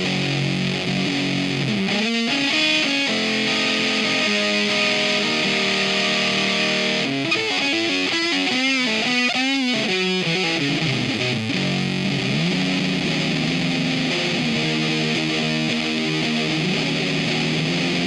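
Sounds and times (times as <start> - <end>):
fuzzed electric guitar: 0.0 - 18.0.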